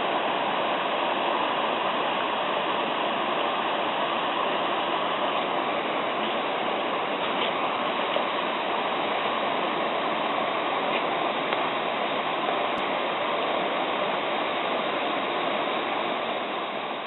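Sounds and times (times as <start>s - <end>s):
stream babbling over rocks: 0.0s - 17.0s.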